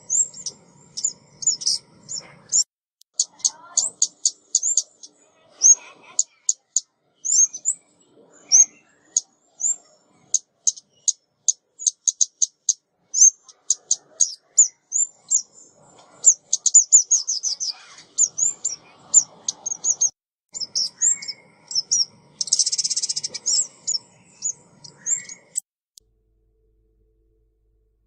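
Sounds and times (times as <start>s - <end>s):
songbird chipping and twittering: 0.0s - 25.6s.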